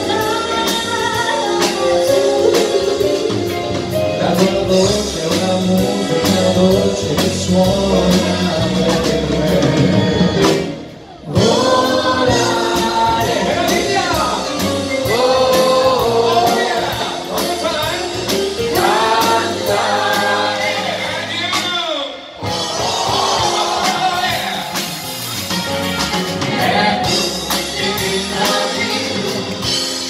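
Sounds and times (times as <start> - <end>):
band playing: 0.0 - 30.0
singers: 4.1 - 25.2, 26.2 - 30.0.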